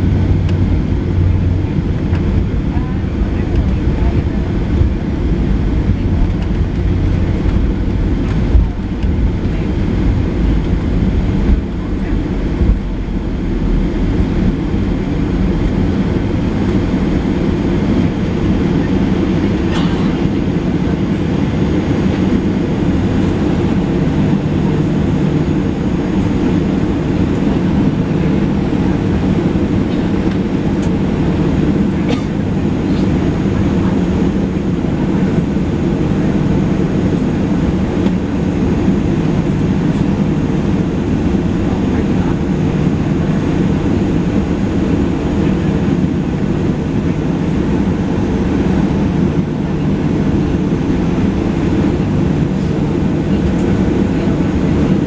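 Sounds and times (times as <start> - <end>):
jet engines low drone: 0.0 - 55.0.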